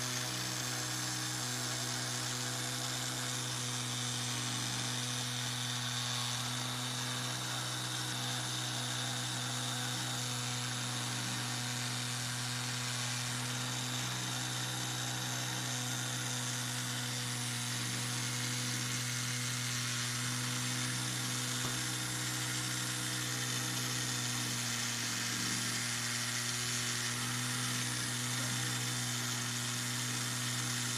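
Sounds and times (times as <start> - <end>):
toy motor and gears whirring: 0.0 - 30.9.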